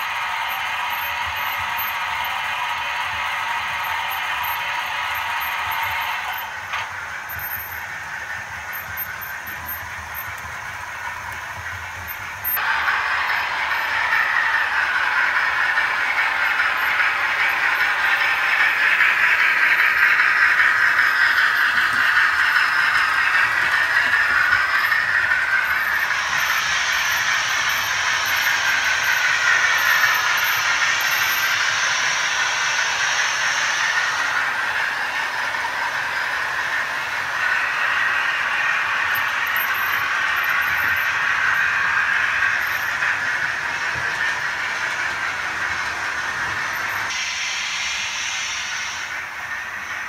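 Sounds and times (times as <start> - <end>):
high hiss: 0.0 - 50.0
model train motors whirring: 0.0 - 50.0.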